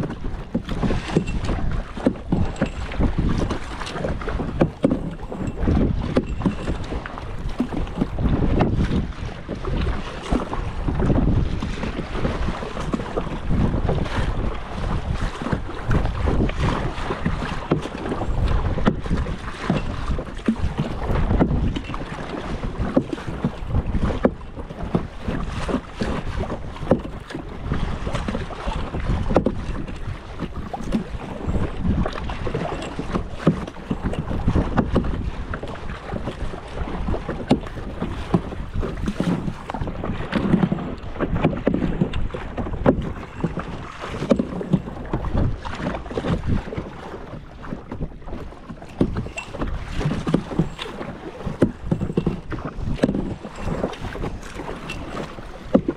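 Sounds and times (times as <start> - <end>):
paddles splashing in water: 0.0 - 55.9
wind rumbling on microphone: 0.0 - 55.9.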